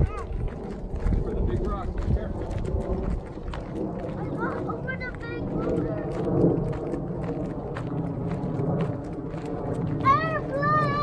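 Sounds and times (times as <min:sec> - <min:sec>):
footsteps on rocky dirt trail: 0:00.0 - 0:11.0
steady low rumble: 0:00.0 - 0:11.0.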